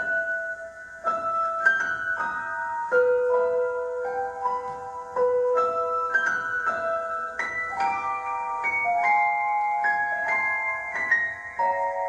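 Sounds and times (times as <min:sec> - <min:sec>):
slow keyboard melody: 0:00.0 - 0:12.0.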